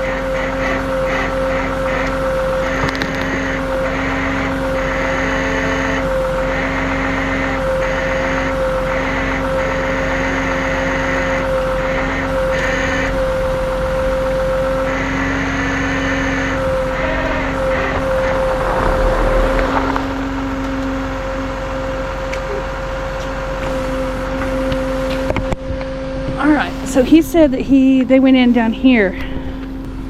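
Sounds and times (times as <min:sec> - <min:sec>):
intermittent higher noise: 0:00.0 - 0:30.0
tow truck engine humming: 0:00.0 - 0:30.0.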